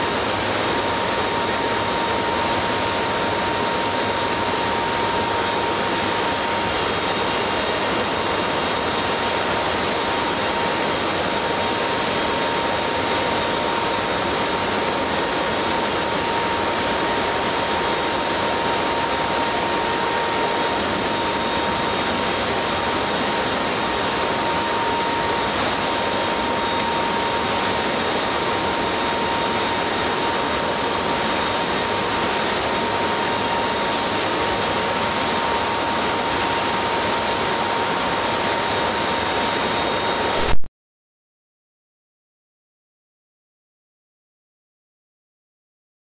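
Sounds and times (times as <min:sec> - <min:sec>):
aircraft engine and wind rush: 0:00.0 - 0:40.6
constant whine: 0:00.0 - 0:40.7.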